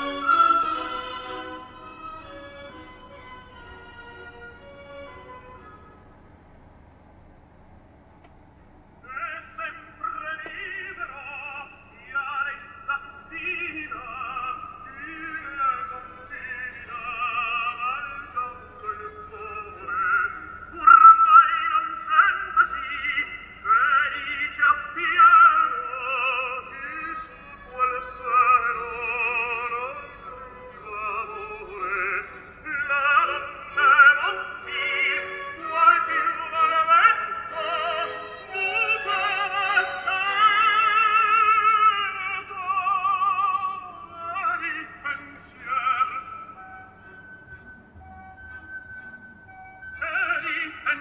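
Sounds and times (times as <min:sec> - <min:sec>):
person singing with vibrato: 0:00.0 - 0:02.4, 0:09.0 - 0:47.3, 0:49.8 - 0:51.0.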